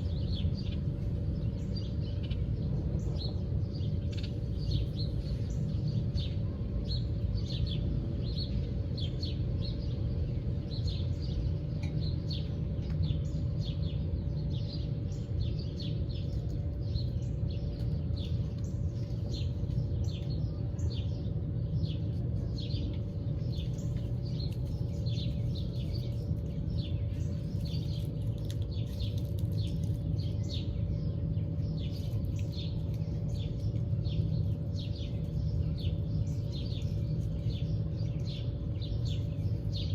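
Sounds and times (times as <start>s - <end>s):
faint constant hum: 0.0s - 39.9s
small birds chirping: 0.0s - 39.9s
steady low rumble: 0.0s - 39.9s.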